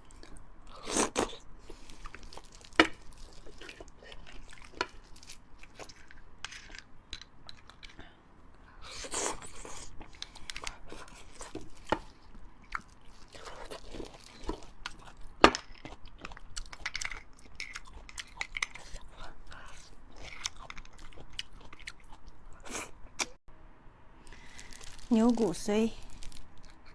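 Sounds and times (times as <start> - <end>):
wet chewing of meat: 0.0 - 23.4.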